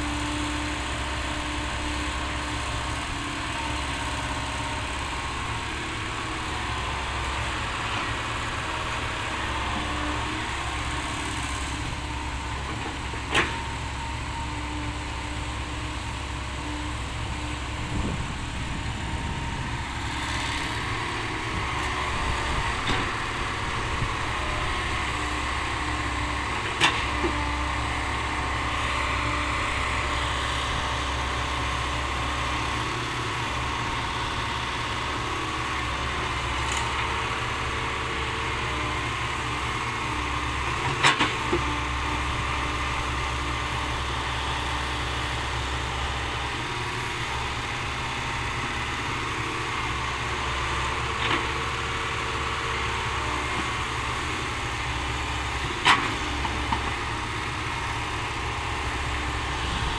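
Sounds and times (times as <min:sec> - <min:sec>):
diesel truck engines idling: 0:00.0 - 0:59.9.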